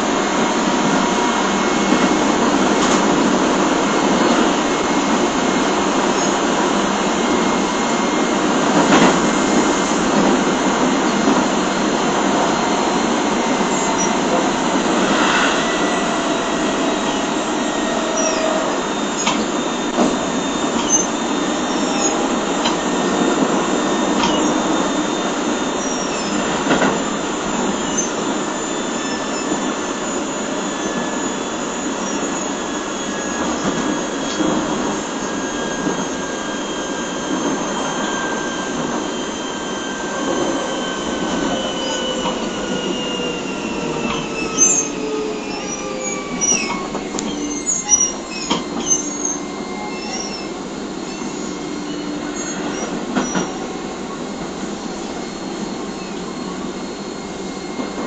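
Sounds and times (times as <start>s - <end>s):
traction motor whine: 0.0s - 58.0s
train wheels rumbling on rail: 0.0s - 58.0s.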